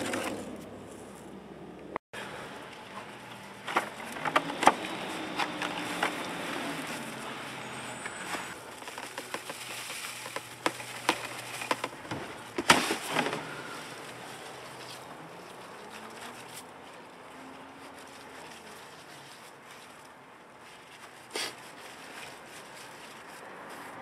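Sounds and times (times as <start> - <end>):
soil pattering: 2.2 - 24.0
handling clicks and rustles: 2.6 - 24.0.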